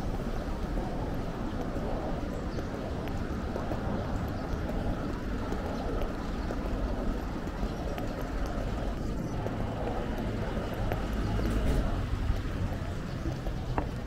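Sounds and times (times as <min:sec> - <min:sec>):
footsteps on pavement: 0:00.0 - 0:14.0
traffic rumble: 0:00.0 - 0:14.0.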